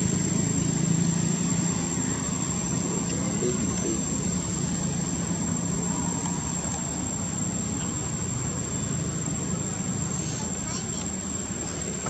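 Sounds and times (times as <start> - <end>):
low hum: 0.0 - 10.0
constant high thin tone: 0.0 - 12.0.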